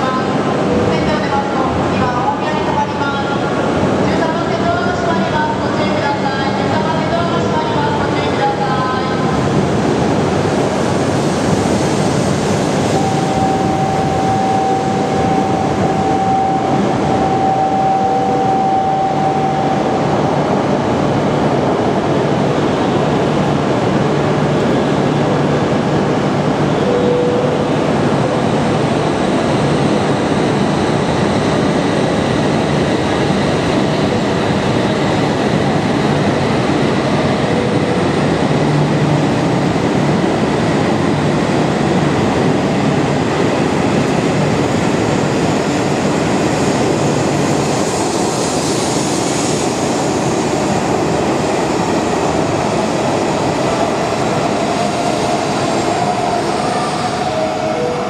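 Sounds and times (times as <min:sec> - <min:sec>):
train wheel and air rush: 0:09.3 - 0:58.0.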